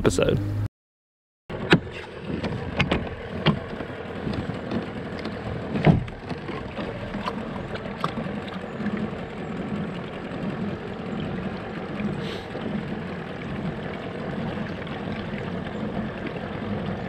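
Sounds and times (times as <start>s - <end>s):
gear knocking against kayak: 1.5s - 17.0s
water lapping against kayak hull: 1.5s - 17.0s.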